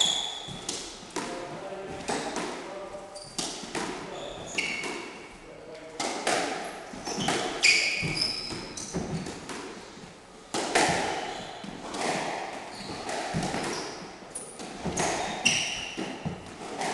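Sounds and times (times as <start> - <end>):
squash ball cracking off rackets and walls: 0.0 - 5.2, 6.0 - 16.9
shoes squeaking on wooden floor: 0.0 - 5.4, 6.6 - 16.9.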